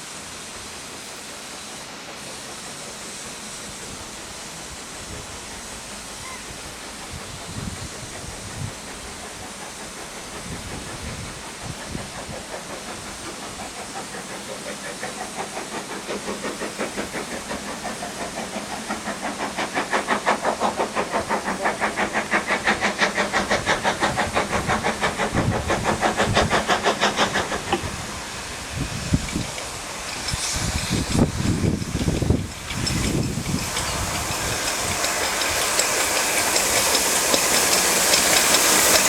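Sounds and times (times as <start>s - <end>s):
steam locomotive chuffing: 0.0s - 39.0s.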